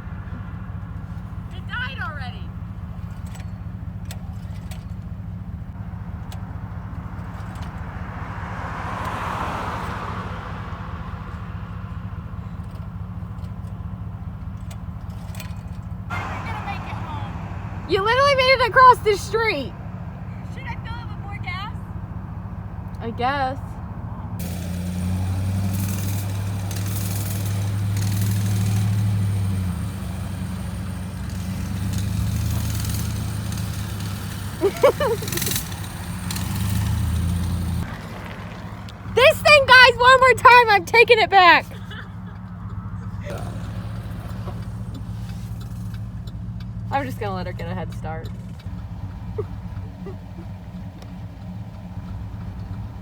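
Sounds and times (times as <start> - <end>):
vehicle engine hum: 0.0 - 53.0
car passing by: 5.7 - 13.8, 15.3 - 53.0.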